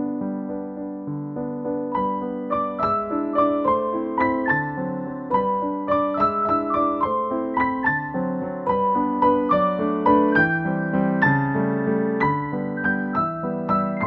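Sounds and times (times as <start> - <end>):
keyboard melody: 0.0 - 14.0.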